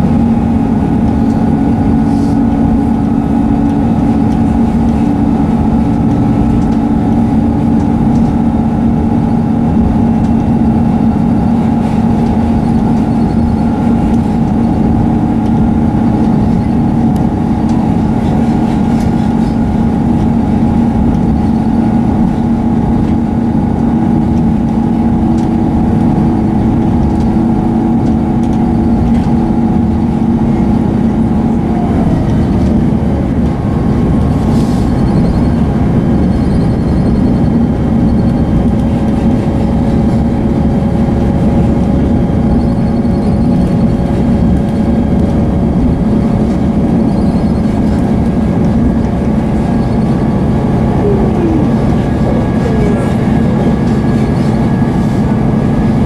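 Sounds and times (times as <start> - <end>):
train engine hum: 0.0 - 56.0
wheels rumbling on track: 0.0 - 56.0.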